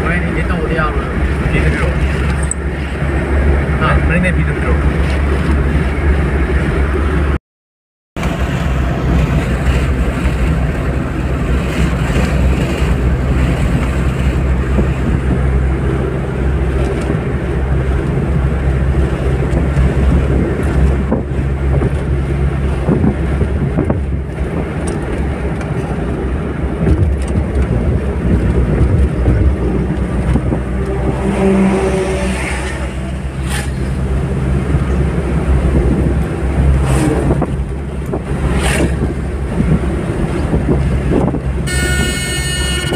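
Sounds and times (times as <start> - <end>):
car cabin road and engine noise: 0.0 - 7.4, 8.2 - 42.9.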